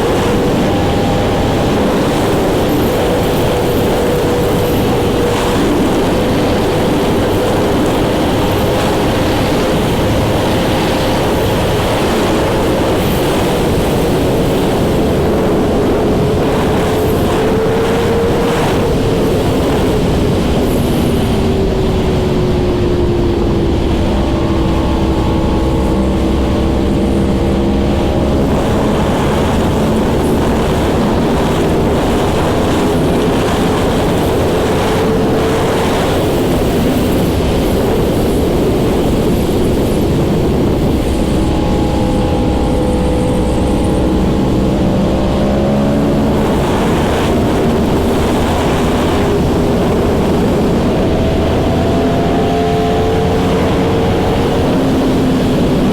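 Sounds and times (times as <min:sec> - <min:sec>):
motorcycle engine cruising: 0:00.0 - 0:55.9
wind rush on microphone: 0:00.0 - 0:55.9.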